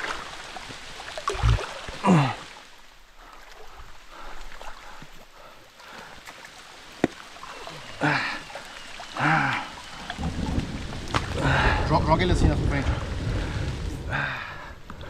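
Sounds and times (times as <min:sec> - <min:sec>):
faint moving water: 0:00.0 - 0:15.0.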